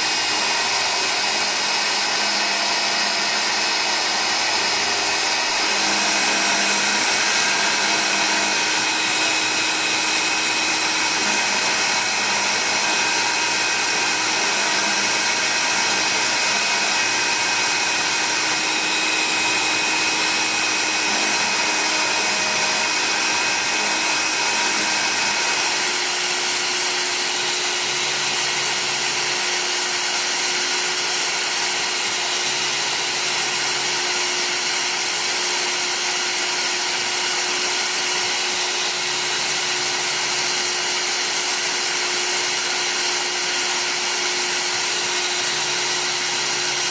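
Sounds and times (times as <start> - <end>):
engraving spindle whine: 0.0 - 46.9.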